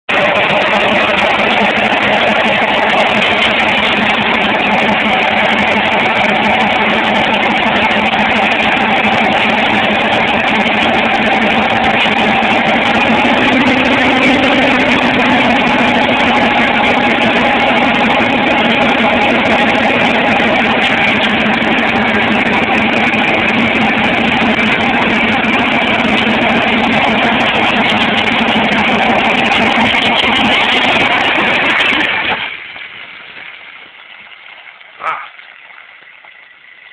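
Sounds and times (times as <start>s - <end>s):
diesel engine revving in burnout: 0.1s - 33.6s
wheels spinning: 0.1s - 36.9s.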